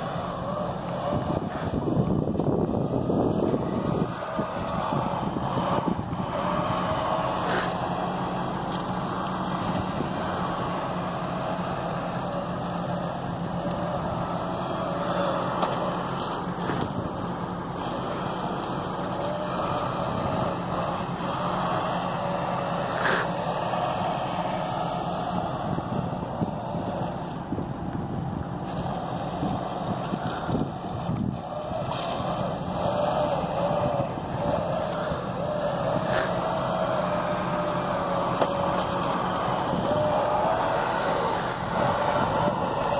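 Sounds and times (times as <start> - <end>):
electric toy motors whining: 0.0 - 27.6, 28.3 - 42.9
steady rushing hiss: 0.0 - 27.6, 31.5 - 42.9.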